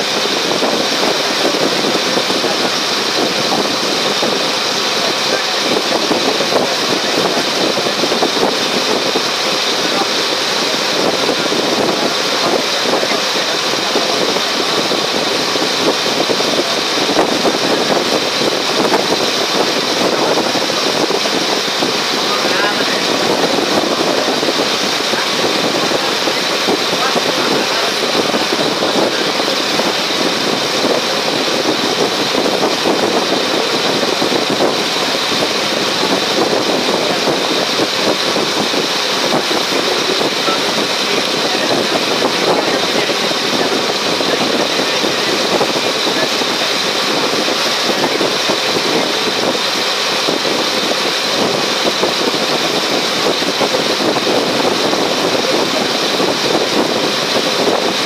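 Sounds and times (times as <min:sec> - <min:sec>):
ferry engine drone: 0:00.0 - 0:58.0
rushing water: 0:00.0 - 0:58.0.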